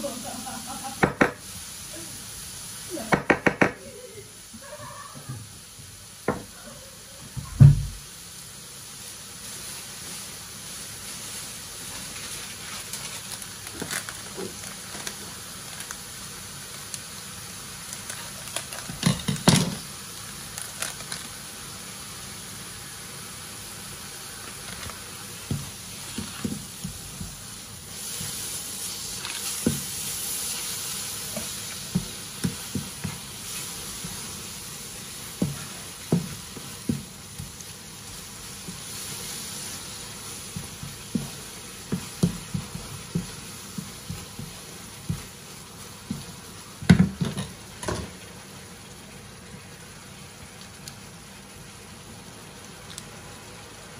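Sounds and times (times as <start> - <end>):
food sizzling: 0.0 - 53.9.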